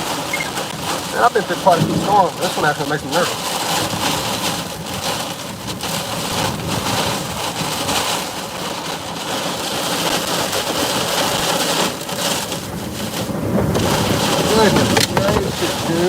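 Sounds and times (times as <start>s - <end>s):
heavy rain battering a truck: 0.0s - 16.0s
strong wind gusts: 0.0s - 16.0s.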